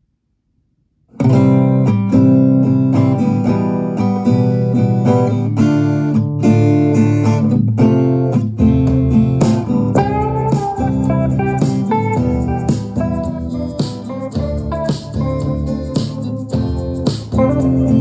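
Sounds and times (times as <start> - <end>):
acoustic guitar music: 1.1 - 18.0.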